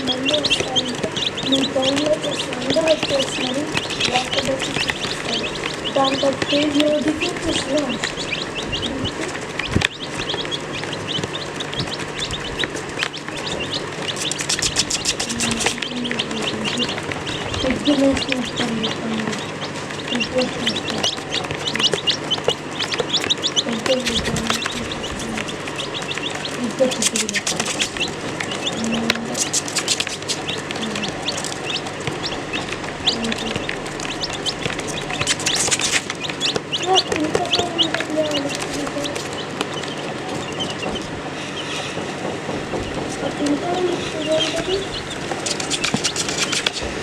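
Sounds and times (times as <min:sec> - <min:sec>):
sharp clicks: 0:00.0 - 0:43.5
baby chicks peeping: 0:00.0 - 0:47.0.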